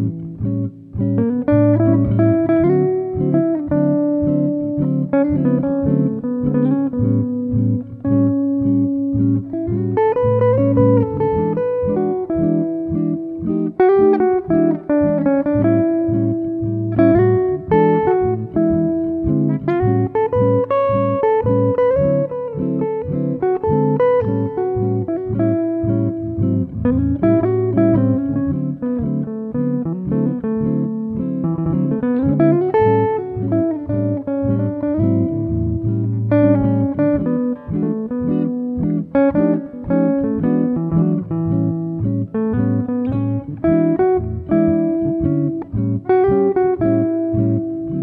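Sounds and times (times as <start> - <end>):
plucked guitar music: 0.0 - 48.0.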